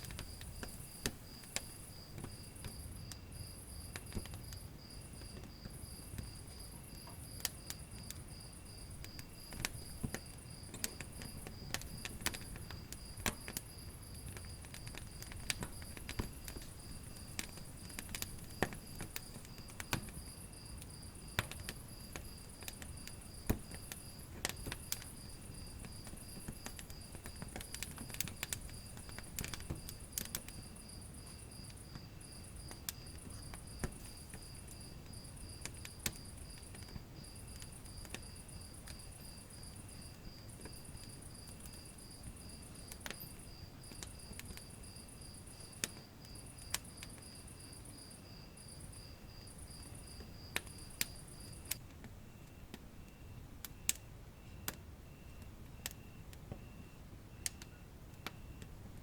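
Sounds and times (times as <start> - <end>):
insects chirping: 0.0 - 58.8
wood fire crackling: 0.0 - 59.0.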